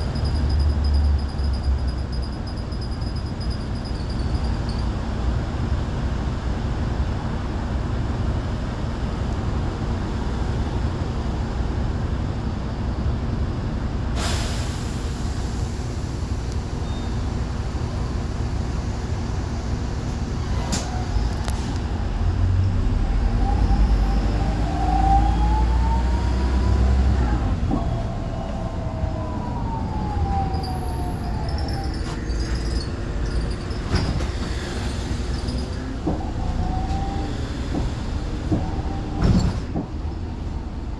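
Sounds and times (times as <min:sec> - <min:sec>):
bus engine running: 0:00.0 - 0:40.9.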